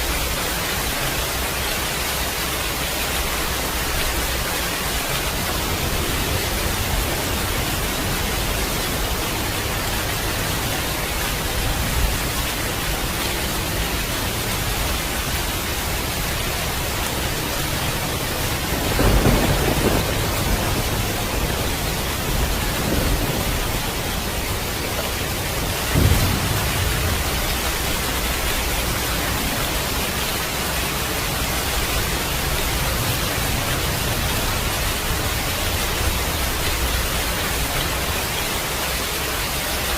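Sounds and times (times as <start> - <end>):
heavy rain: 0.0 - 39.9
low thunder rumbles: 2.8 - 37.7.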